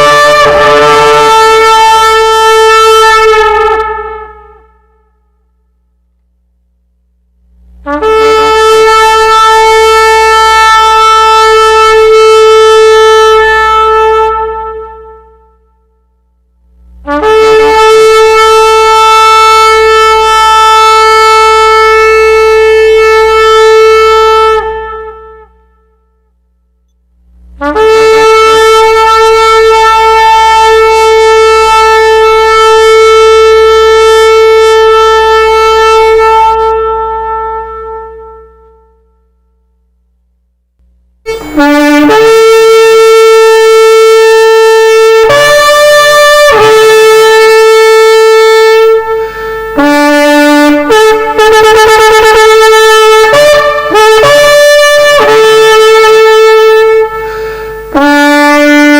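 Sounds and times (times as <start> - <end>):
ram's horn blasts: 0.0 - 6.2, 7.4 - 40.0, 40.8 - 58.9.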